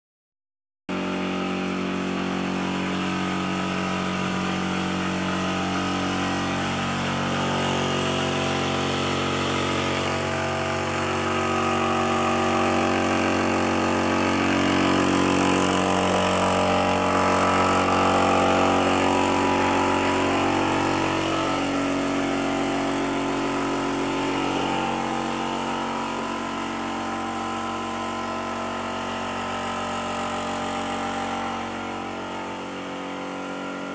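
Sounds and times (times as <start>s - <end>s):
motor humming: 0.9s - 33.9s.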